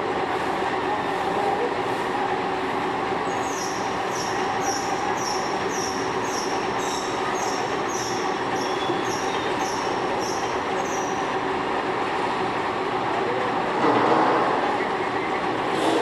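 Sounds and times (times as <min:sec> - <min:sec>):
machine running noise: 0:00.0 - 0:16.0.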